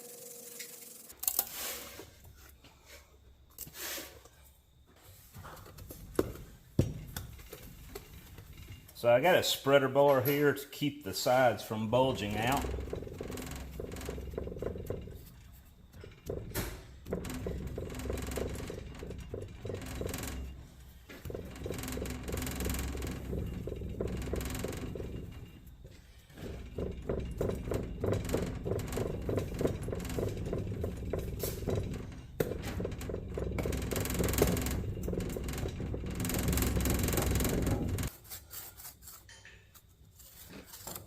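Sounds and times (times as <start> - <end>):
sand scraping and rattling: 7.2 - 41.0.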